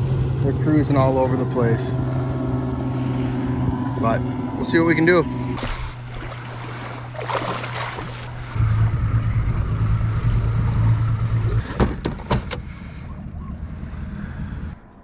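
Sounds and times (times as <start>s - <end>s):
outboard motor boats droning: 0.0s - 15.0s.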